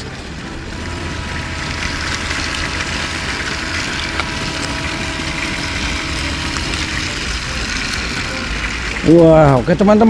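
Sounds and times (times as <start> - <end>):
small electric motors whirring: 0.6 - 8.9.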